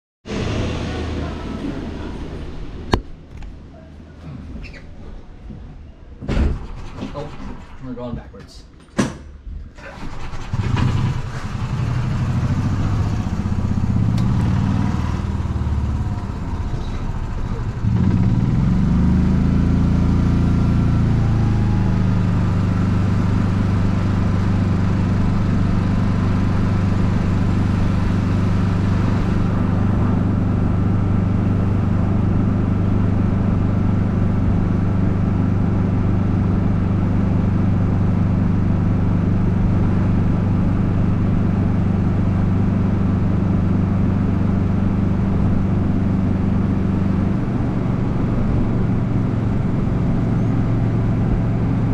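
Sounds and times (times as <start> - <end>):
golf cart engine: 6.6 - 7.9, 9.8 - 51.9.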